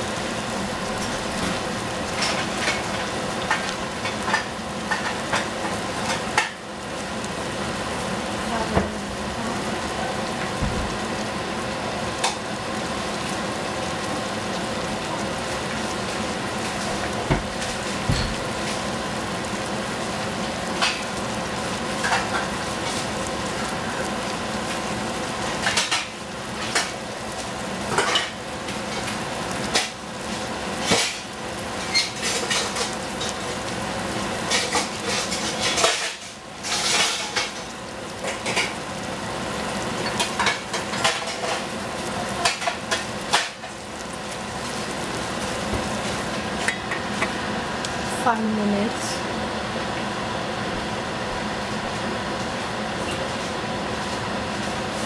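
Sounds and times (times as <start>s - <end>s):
food sizzling in a saucepan: 0.0s - 55.0s.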